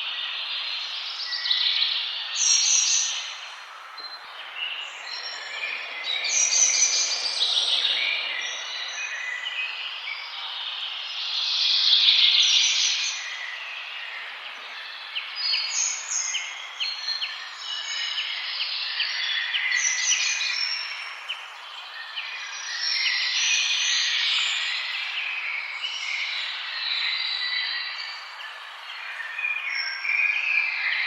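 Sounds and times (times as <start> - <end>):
songbirds singing and chirping: 0.0 - 31.0.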